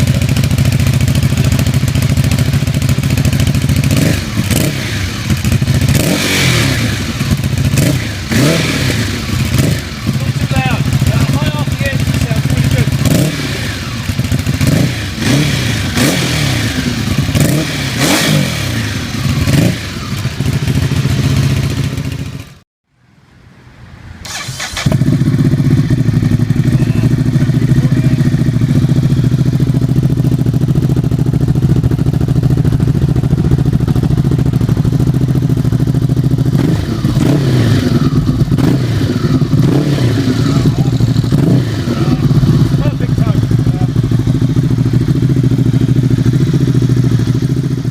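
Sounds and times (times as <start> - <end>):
motorcycle engine revving: 0.0 - 22.6, 24.2 - 47.9.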